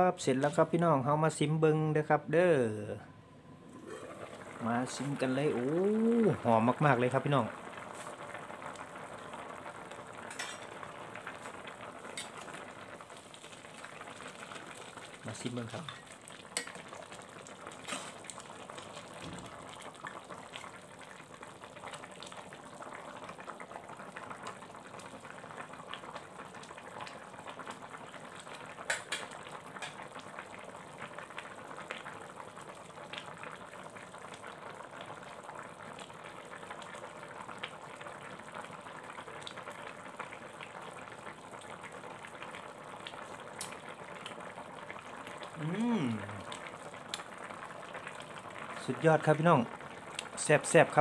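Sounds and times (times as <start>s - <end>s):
curry bubbling in a wok: 3.7s - 51.0s.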